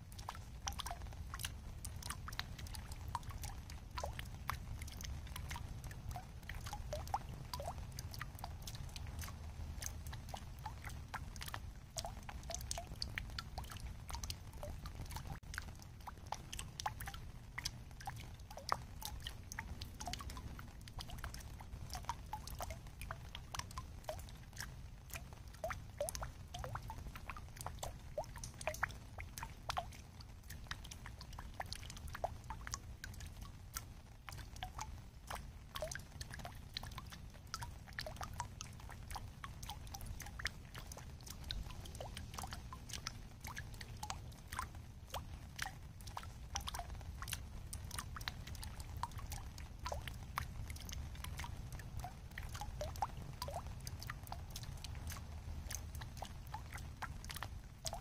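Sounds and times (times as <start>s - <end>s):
low steady rumble: 0.0s - 58.0s
raindrops dripping into pool: 0.0s - 58.0s.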